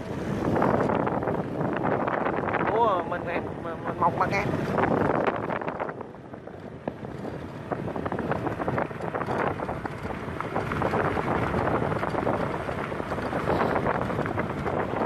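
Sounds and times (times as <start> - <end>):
motorbike engine running: 0.0 - 15.0
wind buffeting microphone: 0.0 - 15.0.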